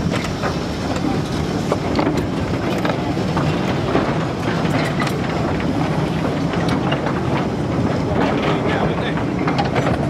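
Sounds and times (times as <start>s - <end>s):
railway wagons rumbling: 0.0s - 10.0s
wheels clicking over rails: 0.0s - 10.0s.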